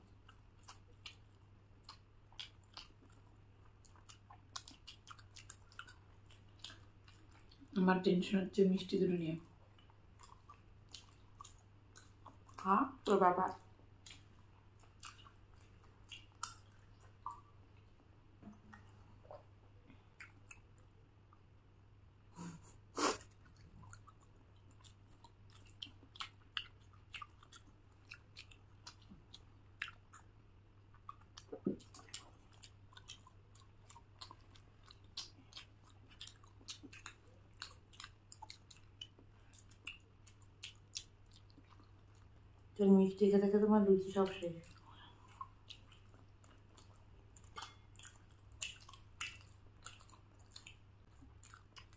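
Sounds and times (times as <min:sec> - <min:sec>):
wet chewing smacks: 0:00.0 - 0:07.8, 0:09.4 - 0:21.4, 0:22.4 - 0:42.8, 0:44.0 - 0:51.9
faint low hum: 0:00.0 - 0:51.9.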